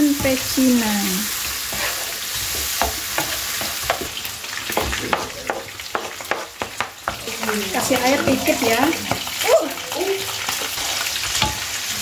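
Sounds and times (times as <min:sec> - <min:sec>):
tomatoes sizzling in oil: 0:00.0 - 0:12.0.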